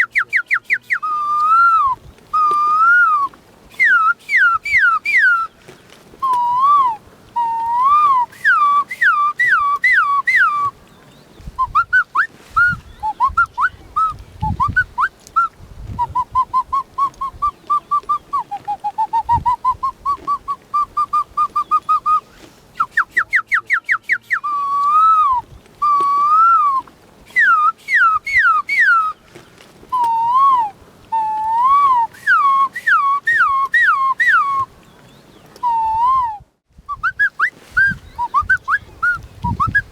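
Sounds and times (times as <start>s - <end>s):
boy whistling birdsong imitations: 0.0s - 5.6s, 6.2s - 10.7s, 11.5s - 29.2s, 30.0s - 34.7s, 35.6s - 39.9s.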